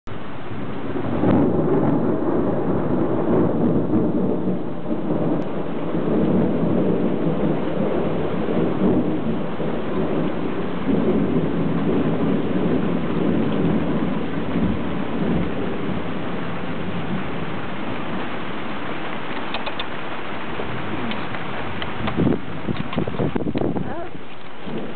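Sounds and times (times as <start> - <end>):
rain falling: 0.1 - 24.9
thunder rumbling: 0.1 - 24.9.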